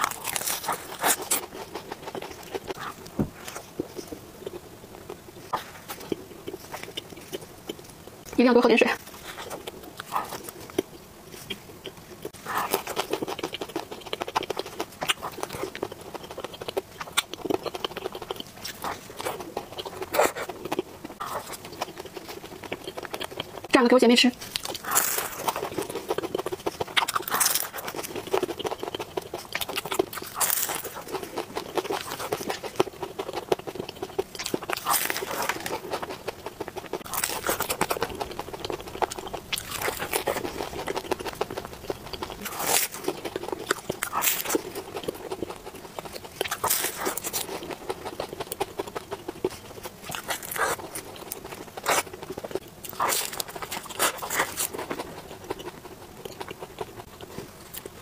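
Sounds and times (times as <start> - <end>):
person chewing crunchy pastry: 0.0 - 8.4, 9.0 - 23.7, 24.4 - 58.0.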